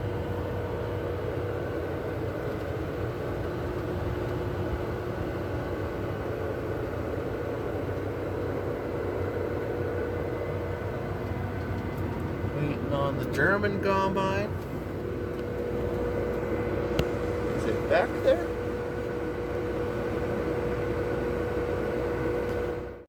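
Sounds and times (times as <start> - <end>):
farm machine engine droning: 0.0 - 23.0.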